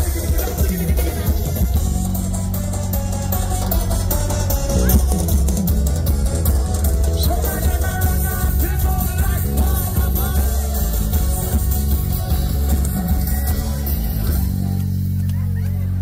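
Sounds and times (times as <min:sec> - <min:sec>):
calypso band playing: 0:00.0 - 0:16.0.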